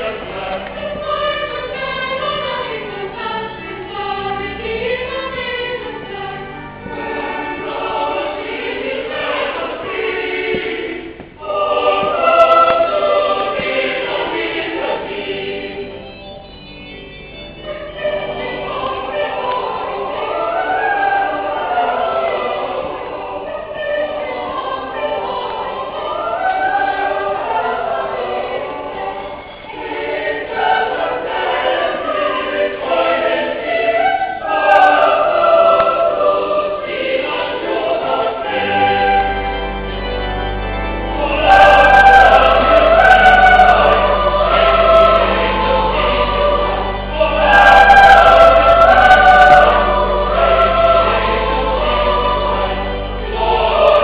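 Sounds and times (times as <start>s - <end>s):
choir singing a carol: 0.0s - 54.0s.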